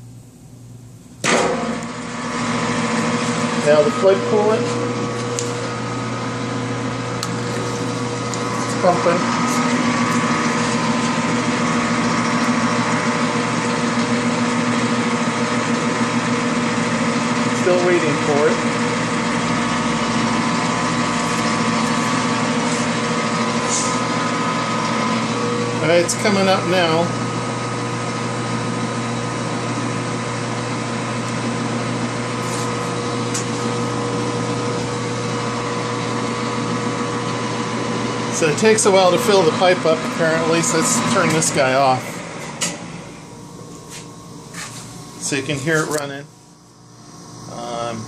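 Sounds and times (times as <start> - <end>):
coolant pump running: 1.1 - 48.0
metal lathe humming: 1.7 - 48.0.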